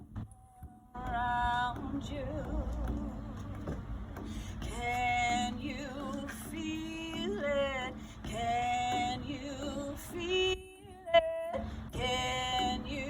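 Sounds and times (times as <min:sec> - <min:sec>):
woman singing slow song: 0:00.3 - 0:13.0.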